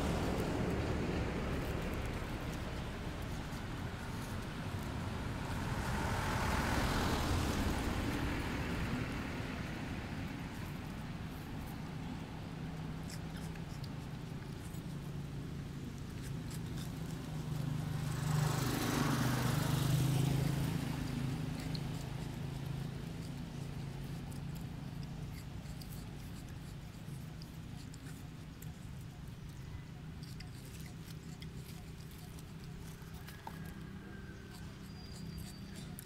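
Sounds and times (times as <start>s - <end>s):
motor vehicles passing by: 0.0s - 36.0s.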